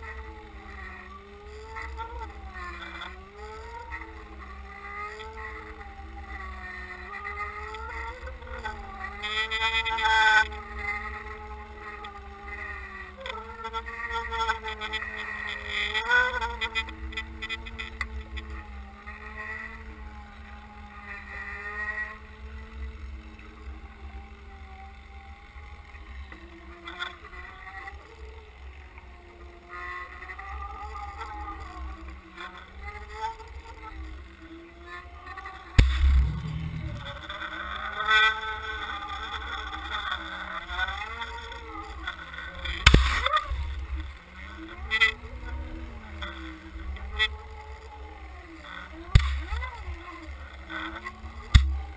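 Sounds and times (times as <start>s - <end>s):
boat motor droning underwater: 0.0s - 51.9s.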